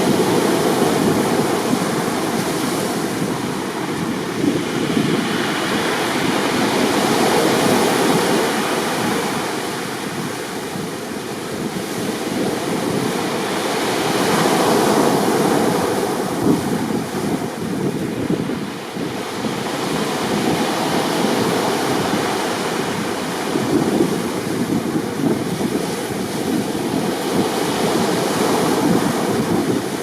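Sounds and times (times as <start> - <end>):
rough sea waves breaking: 0.0 - 30.0.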